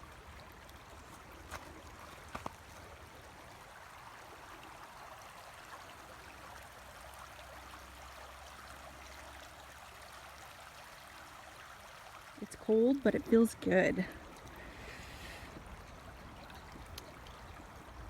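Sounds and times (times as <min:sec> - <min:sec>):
river flowing: 0:00.0 - 0:18.0.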